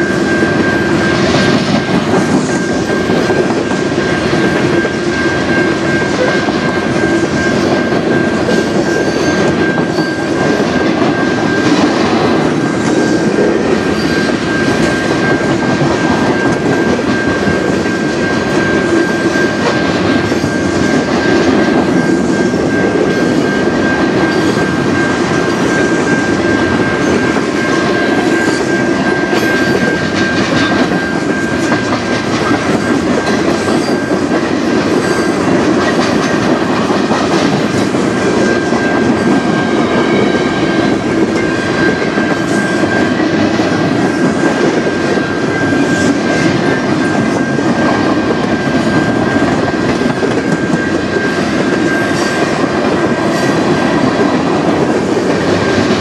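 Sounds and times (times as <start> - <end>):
freight train wheels rumbling: 0.0 - 56.0
high-pitched tone: 0.0 - 56.0.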